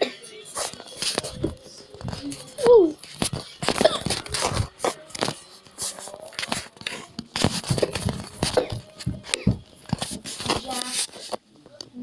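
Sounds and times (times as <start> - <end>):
rustling and crinkling: 0.5 - 11.4.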